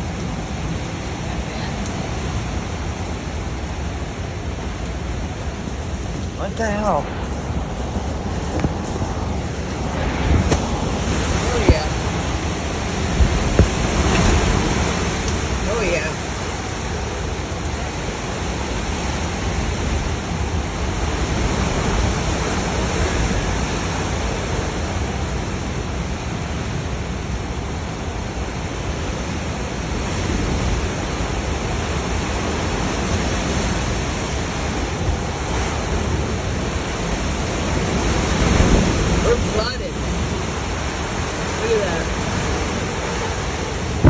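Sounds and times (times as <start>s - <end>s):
hurricane wind and rain: 0.0s - 44.0s.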